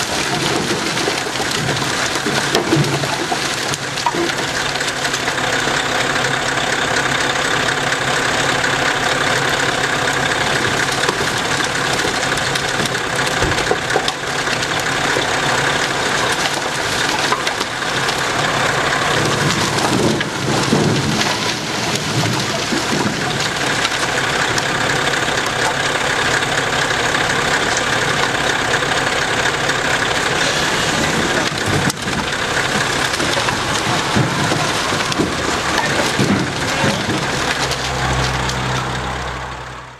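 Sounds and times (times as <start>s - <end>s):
firewood sliding and tumbling: 0.0s - 6.2s, 9.0s - 39.6s
diesel truck engine running: 0.0s - 39.9s.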